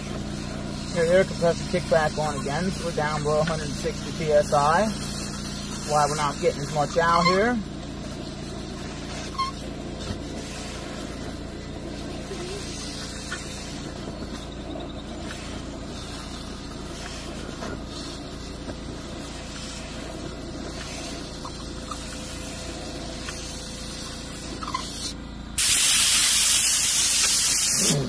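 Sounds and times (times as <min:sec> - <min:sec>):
air blow gun hissing: 0:00.0 - 0:28.0
air compressor running: 0:00.0 - 0:28.0.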